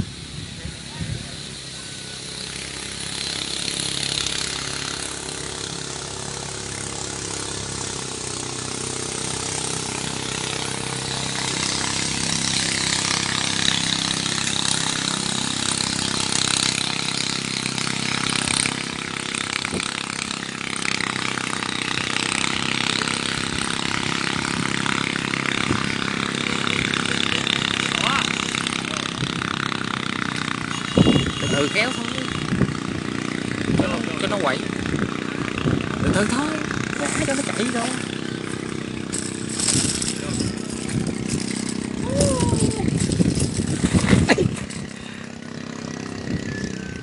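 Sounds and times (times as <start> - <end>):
small engine running: 0.0 - 47.0.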